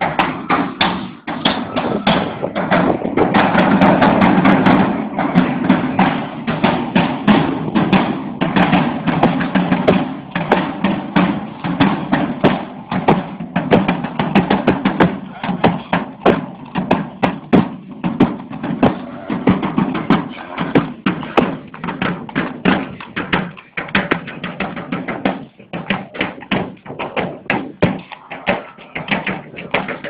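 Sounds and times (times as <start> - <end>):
marching side drums: 0.0 - 30.0.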